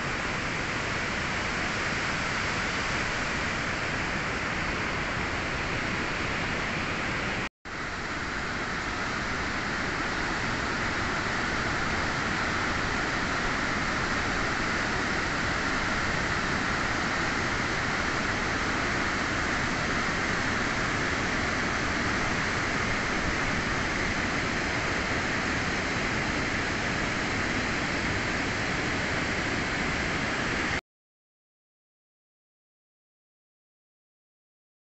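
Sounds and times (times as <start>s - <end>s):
waterfall rushing: 0.1s - 30.8s.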